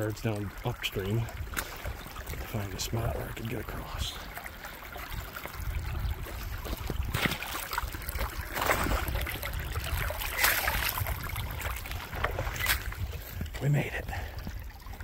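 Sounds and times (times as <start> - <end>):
stream trickling over rocks: 0.0 - 15.0.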